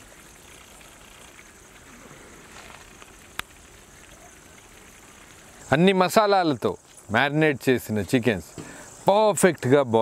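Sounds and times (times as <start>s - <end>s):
curry simmering in a pot: 0.0s - 9.1s.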